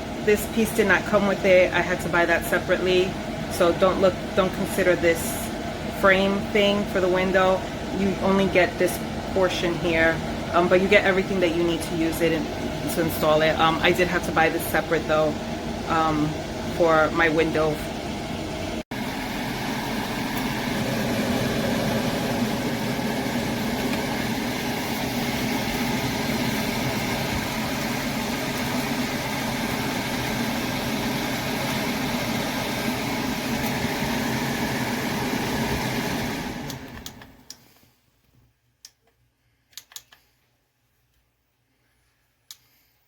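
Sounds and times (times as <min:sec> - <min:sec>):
ventilation fan running: 0:00.0 - 0:38.0.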